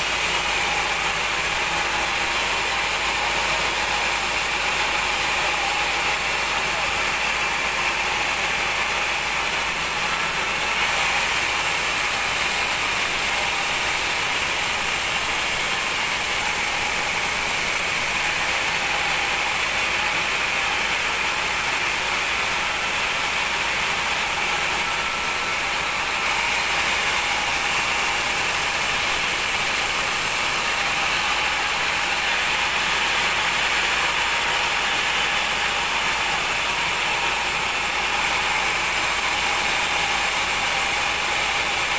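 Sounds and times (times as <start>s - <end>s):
band saw cutting a log: 0.0s - 41.9s.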